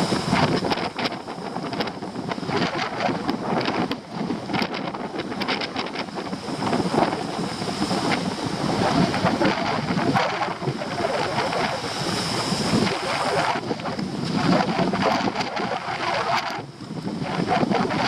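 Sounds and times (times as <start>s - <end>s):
surf breaking on rocks: 0.0s - 18.0s
wind buffeting microphone: 0.0s - 18.0s.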